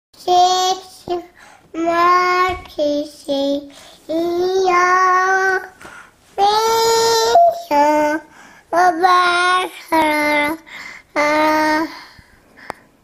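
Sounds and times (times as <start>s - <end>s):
toddler girl singing wordless notes: 0.2s - 12.2s.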